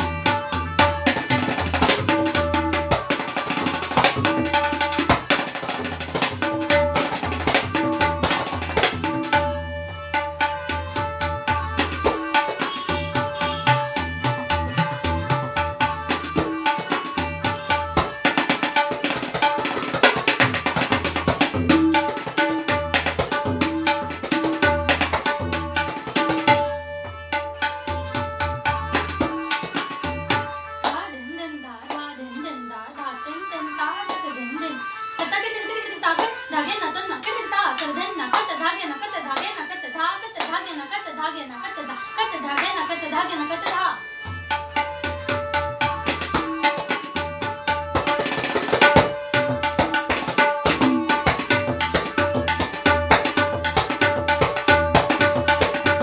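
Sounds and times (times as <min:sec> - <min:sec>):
tabla playing: 0:00.0 - 0:32.6, 0:35.2 - 0:40.7, 0:42.4 - 0:56.0.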